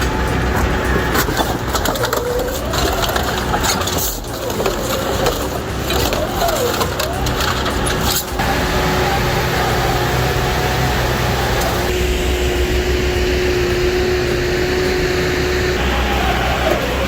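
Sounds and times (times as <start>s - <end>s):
industrial shredder drone: 0.0s - 17.0s.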